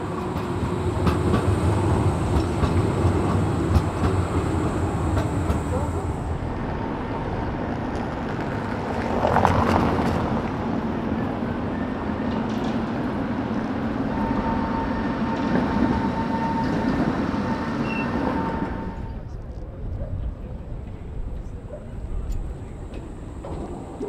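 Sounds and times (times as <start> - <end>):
tram running over rails: 0.0 - 24.0.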